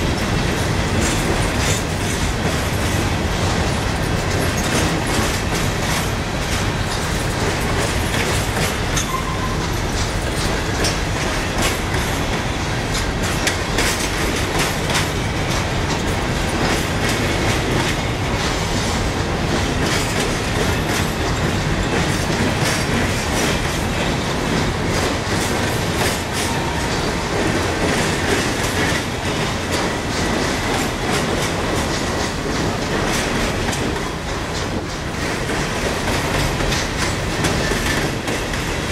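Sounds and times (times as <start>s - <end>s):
continuous train rumble: 0.0s - 38.9s
train wheels clacking: 0.0s - 38.9s.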